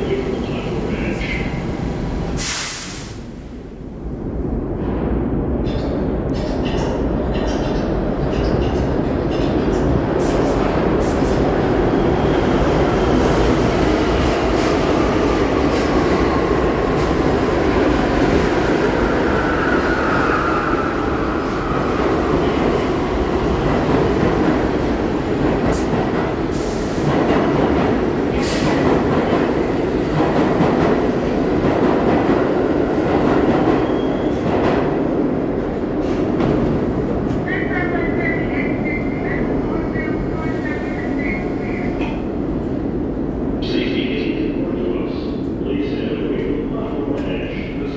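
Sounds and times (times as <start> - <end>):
subway train wheels rumbling: 0.0 - 47.9.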